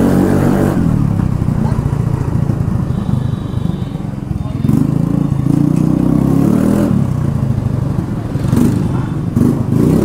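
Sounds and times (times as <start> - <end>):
loud scooter exhaust: 0.0 - 10.0.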